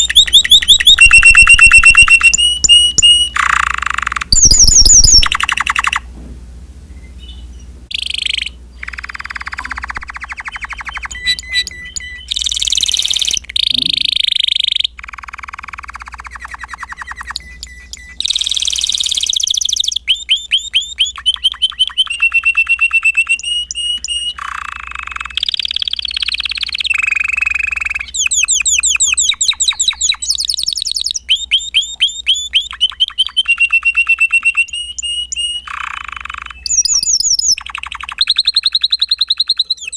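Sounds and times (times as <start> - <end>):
canary singing trills: 0.0 - 6.1, 6.9 - 39.9.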